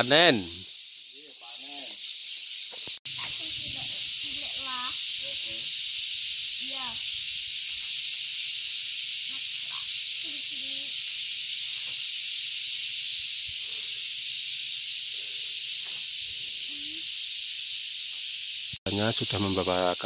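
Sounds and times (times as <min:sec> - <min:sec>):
cicadas calling: 0:00.0 - 0:20.0.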